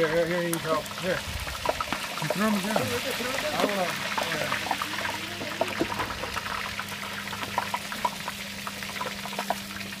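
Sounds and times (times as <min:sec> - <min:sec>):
hot oil bubbling and crackling: 0:00.0 - 0:10.0.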